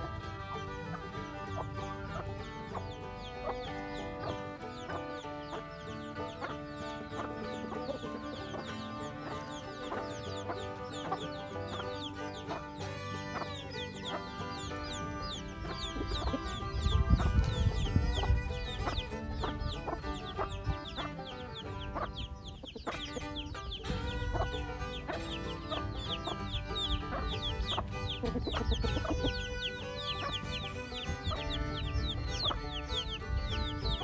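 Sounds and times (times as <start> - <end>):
background music: 0.0 - 34.0
chickens clucking: 0.0 - 34.0.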